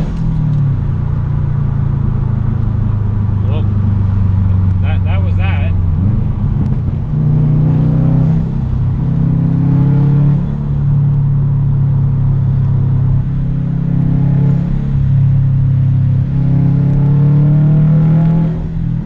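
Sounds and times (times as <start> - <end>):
car exhaust drone: 0.0 - 19.0.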